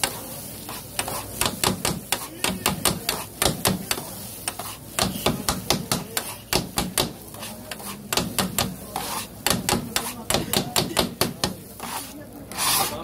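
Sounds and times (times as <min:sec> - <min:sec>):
metal spatulas clanking on griddle: 0:00.0 - 0:13.0.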